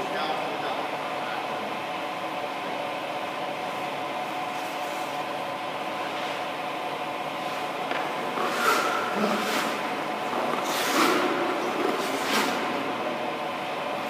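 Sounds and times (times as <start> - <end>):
machine hum with steady tones: 0.0 - 14.0.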